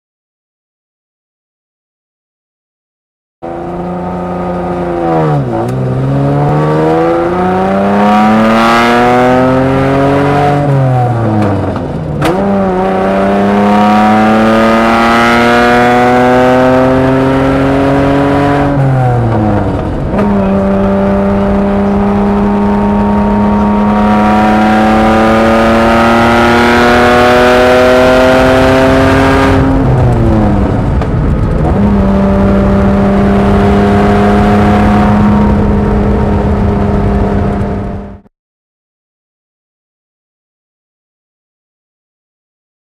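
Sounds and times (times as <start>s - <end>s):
engine accelerating through gears: 3.4s - 38.3s.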